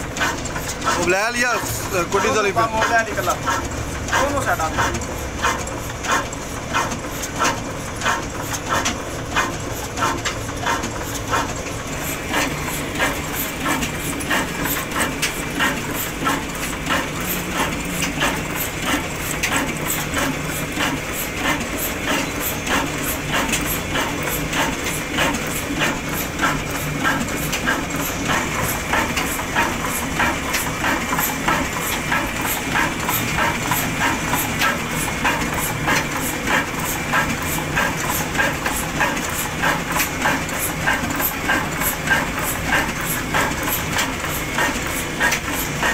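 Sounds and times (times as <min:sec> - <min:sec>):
stationary diesel engine knocking: 0:00.0 - 0:45.9.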